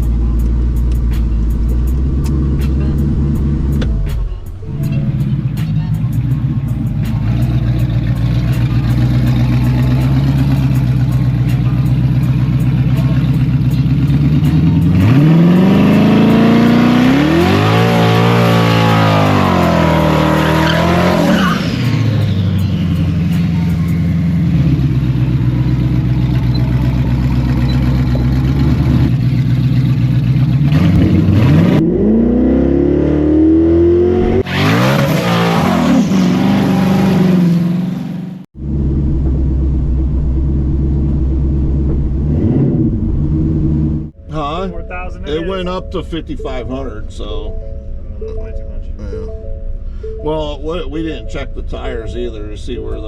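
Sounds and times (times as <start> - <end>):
drag car engine idling and revving: 0.0 - 44.2.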